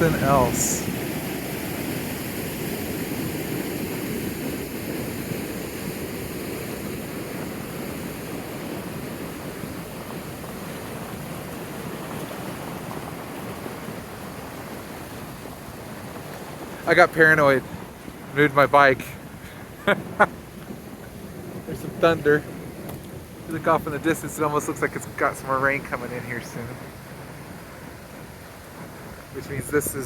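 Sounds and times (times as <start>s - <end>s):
floodwater rushing over road: 0.0s - 30.0s.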